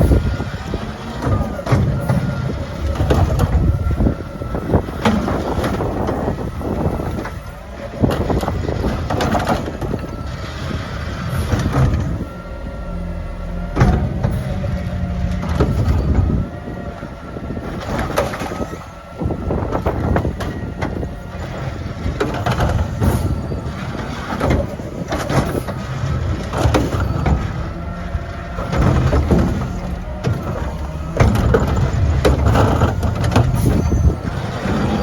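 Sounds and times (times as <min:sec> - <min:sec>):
garbage truck engine whining: 0:00.0 - 0:35.0
wind buffeting microphone: 0:00.0 - 0:35.0.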